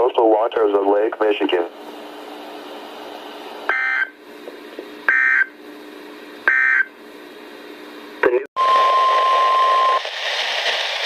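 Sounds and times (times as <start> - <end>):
low radio hum: 0.0 - 11.0.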